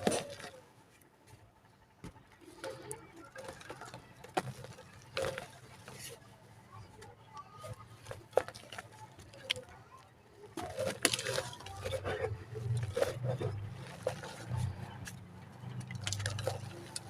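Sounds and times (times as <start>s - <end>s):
dried mud crumbling in hands: 2.4s - 17.0s.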